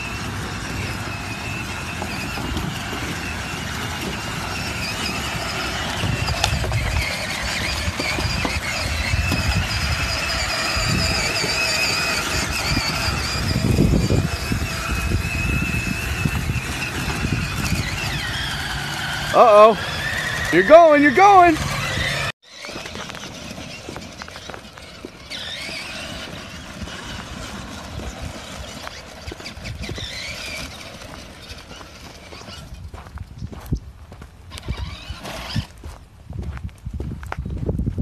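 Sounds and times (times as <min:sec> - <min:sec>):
electric motor whine: 0:00.0 - 0:33.1
wheels crunching over dirt: 0:00.0 - 0:38.0.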